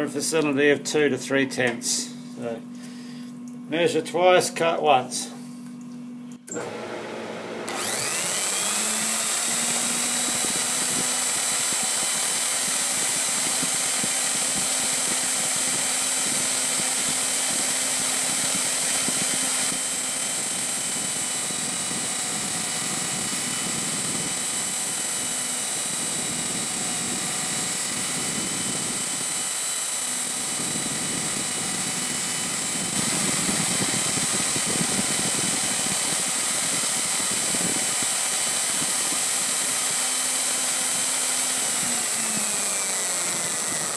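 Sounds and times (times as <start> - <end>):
grinder whining: 6.4 - 43.9.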